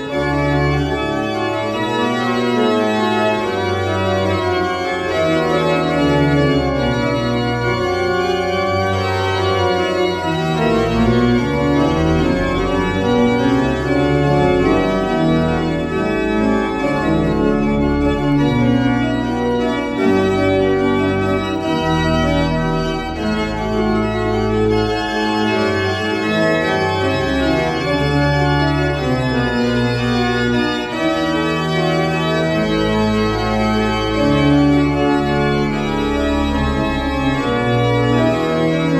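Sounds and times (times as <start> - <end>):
pipe organ chords: 0.0 - 38.9.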